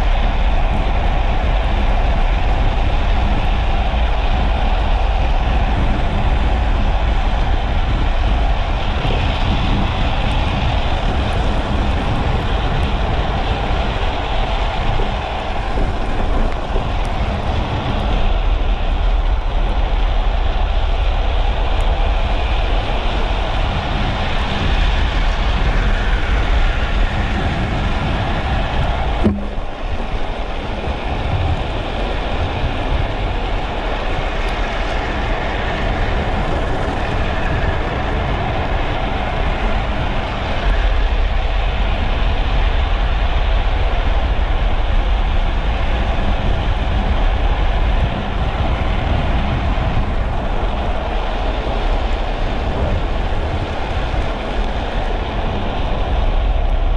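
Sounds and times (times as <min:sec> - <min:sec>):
wheels rolling on asphalt: 0:00.0 - 0:56.9
wind rushing over microphone: 0:00.0 - 0:56.9.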